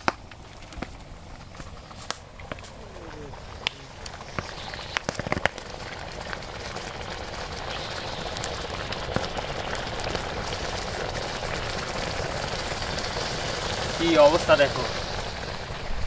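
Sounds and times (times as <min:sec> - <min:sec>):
lime hissing and crackling: 0:00.0 - 0:16.0.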